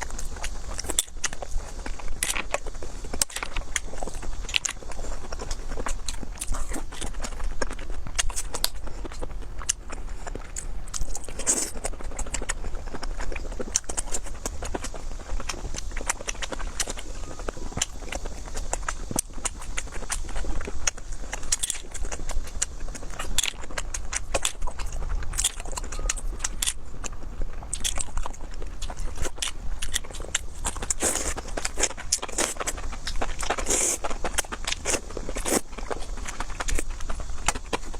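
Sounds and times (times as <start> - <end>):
chewing and biting: 0.0 - 37.9
steady low hum: 0.0 - 37.9.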